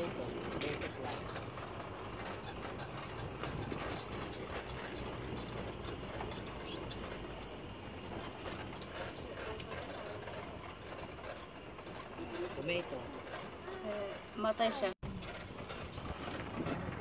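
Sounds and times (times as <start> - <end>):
frame rattling and clicking: 0.0 - 17.0
motorcycle tricycle engine: 0.0 - 17.0.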